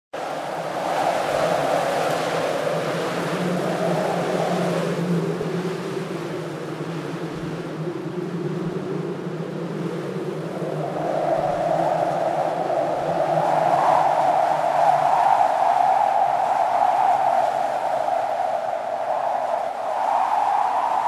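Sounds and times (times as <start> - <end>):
wind blowing in gusts: 0.2 - 21.0.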